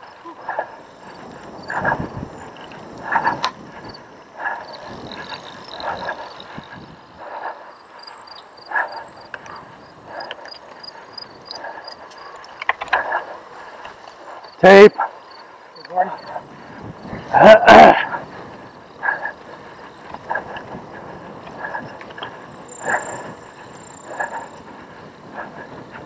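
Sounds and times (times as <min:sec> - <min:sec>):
bike knocking and rattling: 0:00.0 - 0:14.3, 0:16.4 - 0:26.0.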